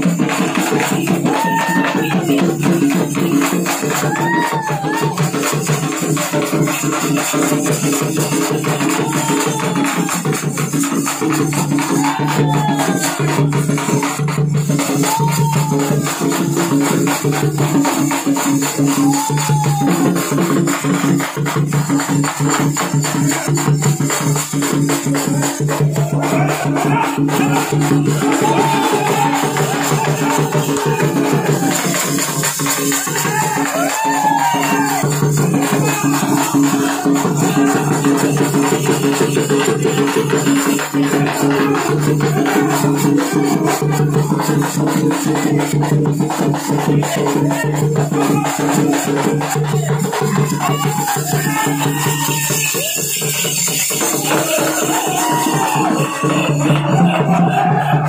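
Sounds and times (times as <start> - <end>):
fast street band percussion: 0.0 - 58.0.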